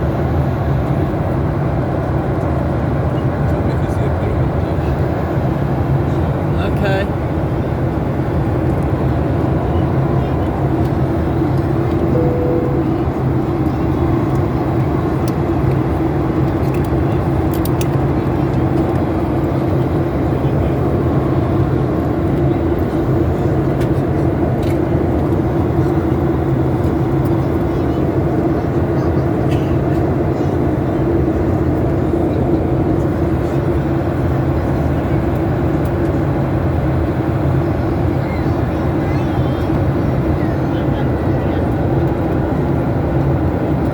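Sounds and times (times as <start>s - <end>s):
airplane cabin engine drone: 0.0s - 43.9s.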